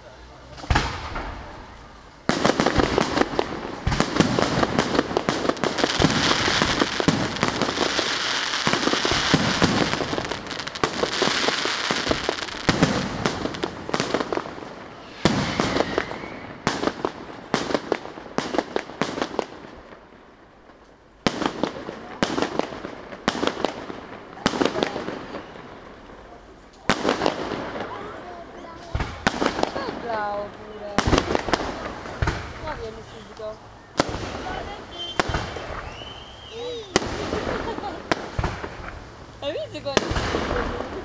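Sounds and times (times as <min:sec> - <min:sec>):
hissing crackle: 0:00.0 - 0:21.1, 0:21.7 - 0:41.0
fireworks crackling and banging: 0:00.0 - 0:41.0.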